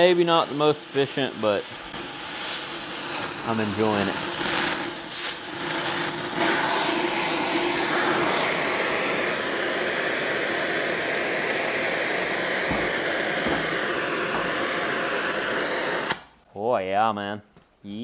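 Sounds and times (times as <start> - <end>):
torch flame hissing: 0.0 - 16.4.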